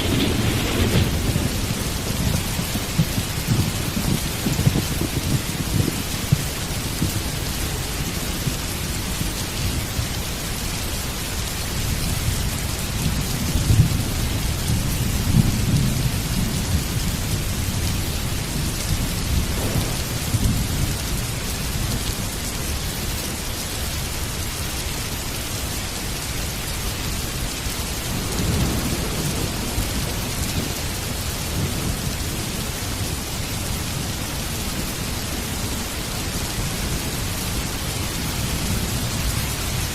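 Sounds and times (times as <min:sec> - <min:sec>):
rolling thunder: 0:00.0 - 0:23.1, 0:27.1 - 0:39.9
heavy rain: 0:00.0 - 0:39.9.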